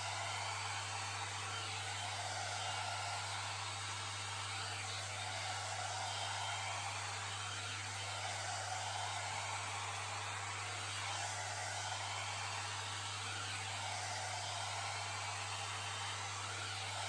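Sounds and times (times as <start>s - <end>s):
hair dryer blowing air: 0.0s - 17.0s.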